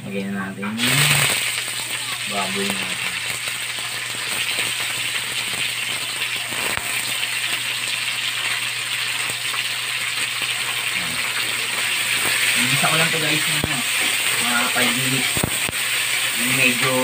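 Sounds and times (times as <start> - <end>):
pork sizzling in hot oil: 0.6 - 17.0.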